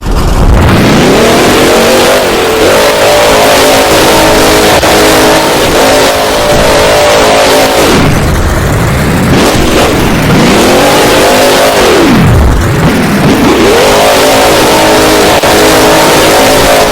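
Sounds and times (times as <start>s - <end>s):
monster truck engine revving: 0.0s - 16.9s.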